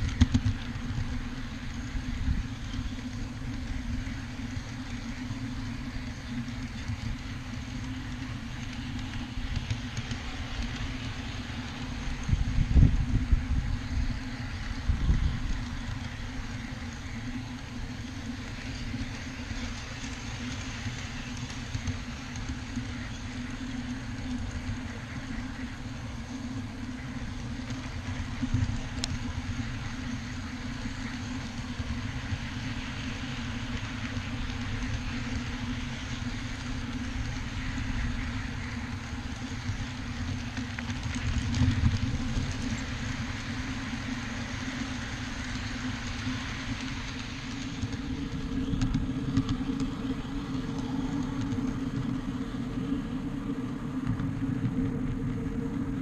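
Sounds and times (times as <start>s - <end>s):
ride-on train motor hum: 0.0s - 56.0s
wheels rumbling on rail: 0.0s - 56.0s.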